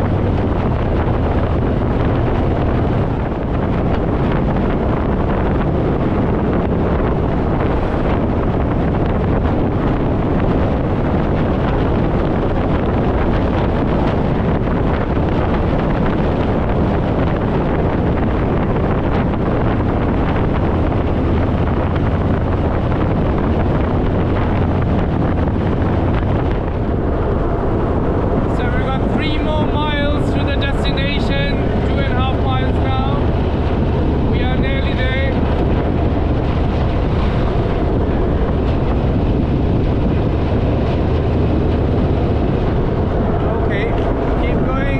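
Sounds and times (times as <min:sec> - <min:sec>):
motorcycle engine cruising: 0:00.0 - 0:44.9
wind buffeting microphone: 0:00.0 - 0:44.9.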